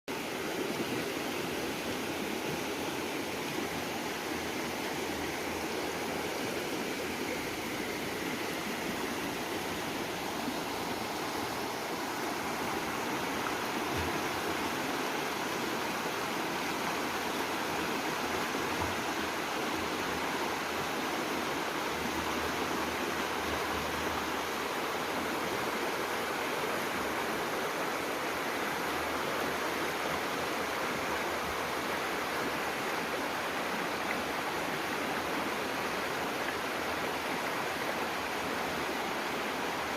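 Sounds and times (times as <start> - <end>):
river water rushing: 0.1 - 39.9.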